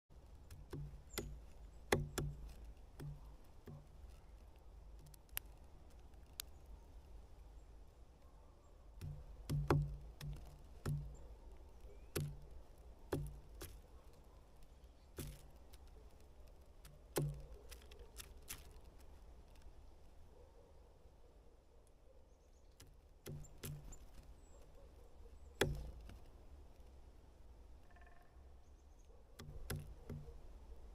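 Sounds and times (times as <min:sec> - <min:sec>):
woodpecker pecking wood: 0:00.1 - 0:08.2, 0:08.8 - 0:20.3, 0:22.6 - 0:30.9.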